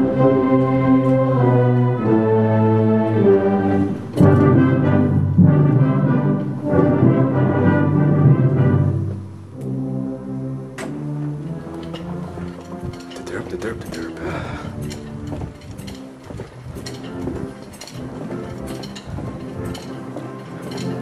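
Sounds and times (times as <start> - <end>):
wind ensemble brass chords: 0.0 - 21.0.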